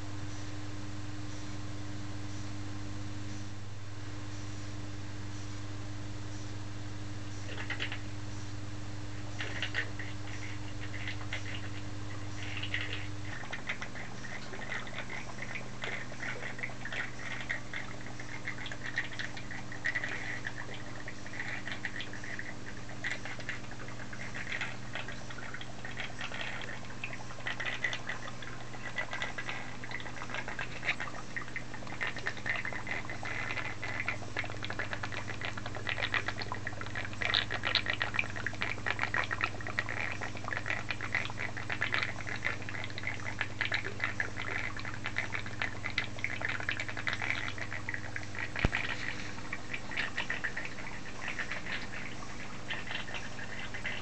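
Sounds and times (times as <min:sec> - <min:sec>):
fountain pump humming: 0:07.4 - 0:08.2, 0:08.9 - 0:54.0
coolant trickling and spattering: 0:09.3 - 0:54.0.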